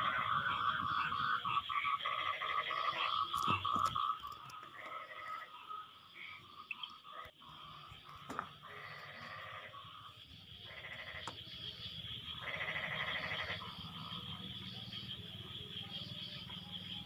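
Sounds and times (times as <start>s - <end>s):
fast low croaking: 0.0s - 14.6s
high-pitched frog chorus: 0.0s - 17.0s
pulsed bleating frog calls: 0.0s - 17.0s.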